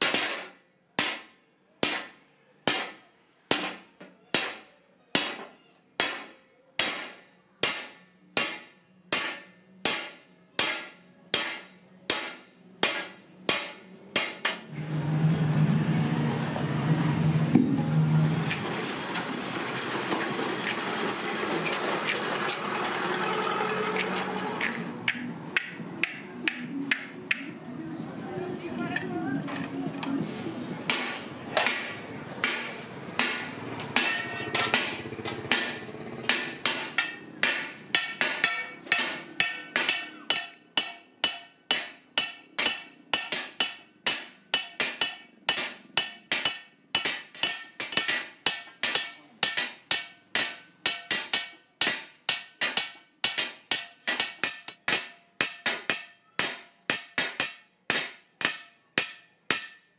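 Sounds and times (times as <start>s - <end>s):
hammer beating metal: 0.0s - 14.8s, 17.5s - 27.6s, 30.9s - 59.9s.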